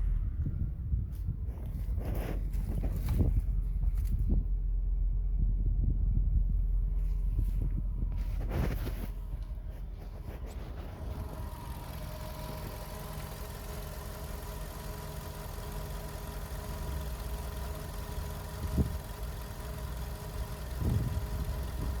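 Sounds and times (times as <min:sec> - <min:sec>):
car engine idling: 0:01.6 - 0:22.0.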